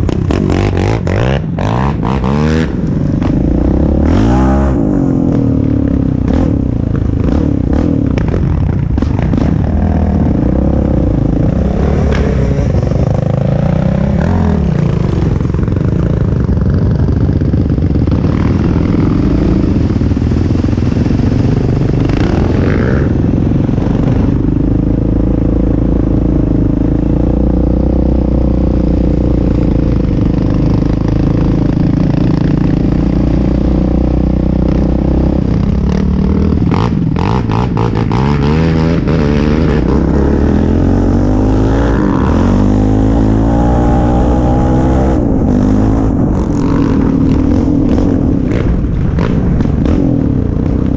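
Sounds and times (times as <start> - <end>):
off-road vehicle engine: 0.0 - 50.9.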